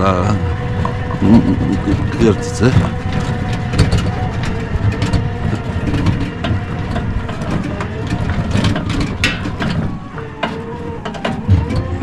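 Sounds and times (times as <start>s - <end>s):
knocks and rattles from bumps: 0.0s - 12.0s
tricycle motor whining under load: 0.0s - 12.0s.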